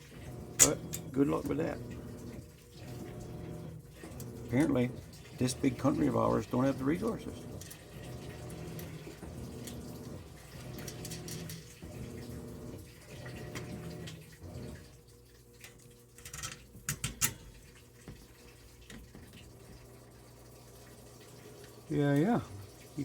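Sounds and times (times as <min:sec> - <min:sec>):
washing machine motor humming: 0:00.0 - 0:23.0
water flowing into washing machine: 0:00.0 - 0:23.0.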